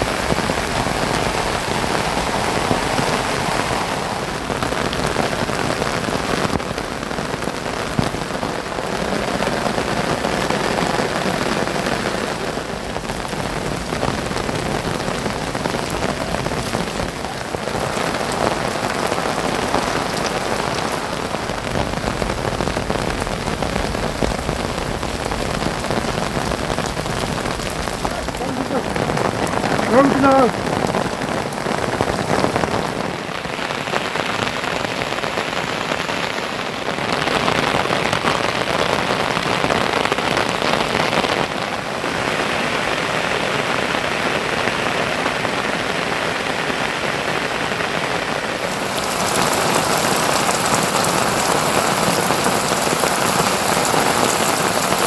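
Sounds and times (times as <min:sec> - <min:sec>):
heavy rain hiss: 0:00.0 - 0:55.0.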